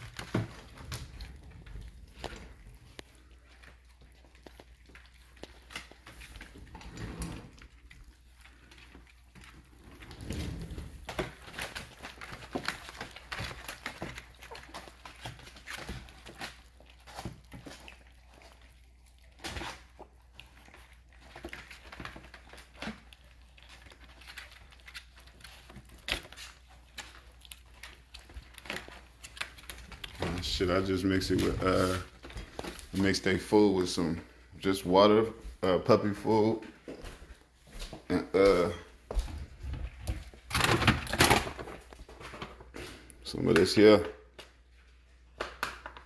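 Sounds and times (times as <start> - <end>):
puppies eating smacking: 0.0 - 46.0.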